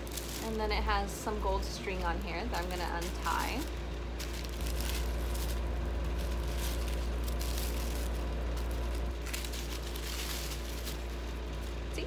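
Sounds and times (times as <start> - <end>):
low hum: 0.0 - 12.0
tissue paper rustling: 0.0 - 12.0.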